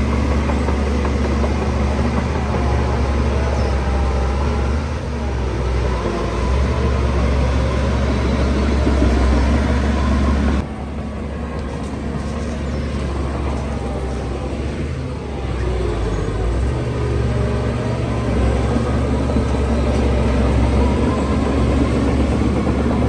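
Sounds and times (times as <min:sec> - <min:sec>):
diesel machinery engine hum: 0:00.0 - 0:23.0.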